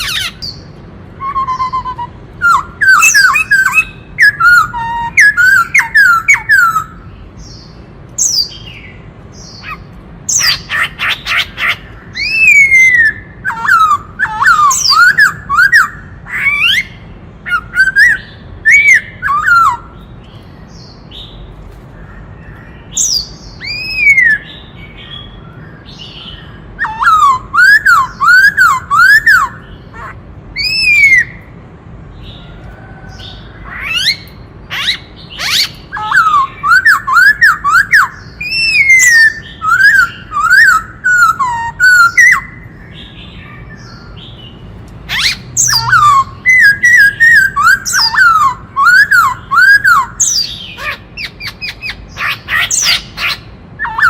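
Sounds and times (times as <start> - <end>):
bird whistled song phrases: 0.0 - 21.4, 22.4 - 31.4, 33.1 - 44.4, 45.1 - 54.0.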